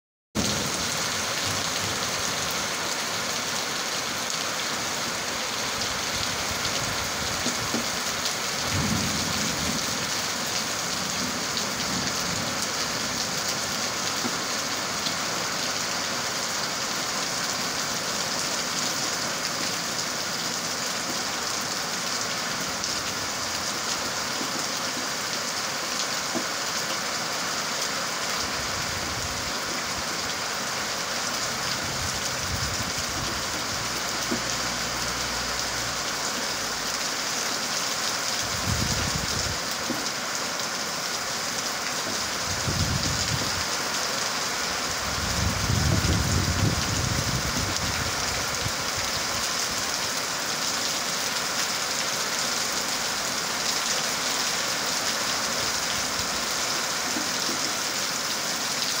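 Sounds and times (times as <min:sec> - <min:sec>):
heavy rain pouring: 0:00.4 - 0:59.0.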